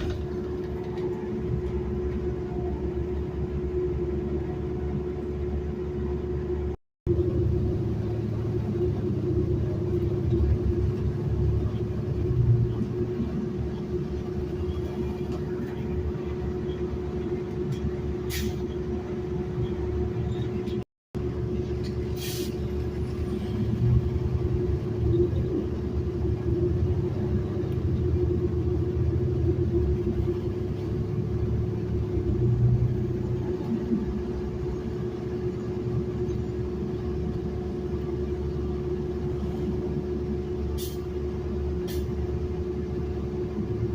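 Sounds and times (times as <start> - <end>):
bus engine and road rumble: 0.0 - 43.9.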